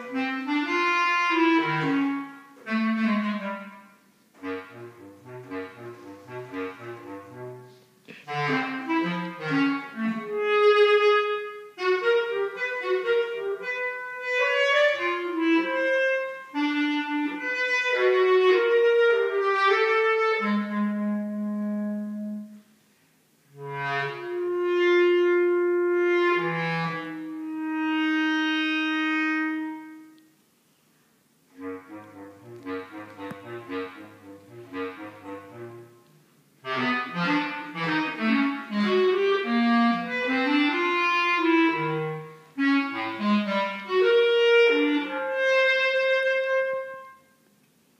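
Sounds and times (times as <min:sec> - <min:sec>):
bass clarinet playing: 0:00.0 - 0:22.8, 0:23.5 - 0:30.3, 0:31.5 - 0:47.4.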